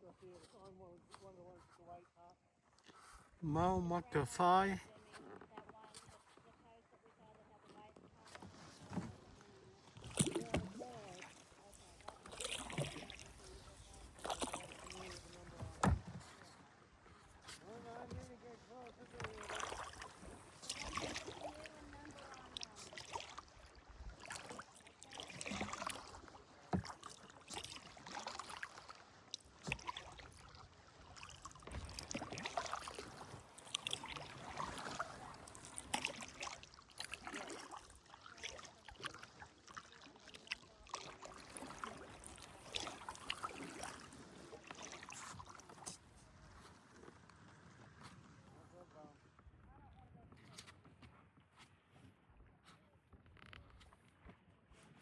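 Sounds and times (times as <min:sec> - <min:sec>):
kayak paddle splashing: 0:02.6 - 0:50.9.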